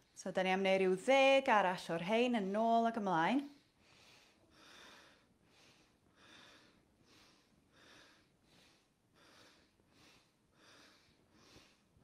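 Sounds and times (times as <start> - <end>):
faint rhythmic breathing: 0.0 - 12.0.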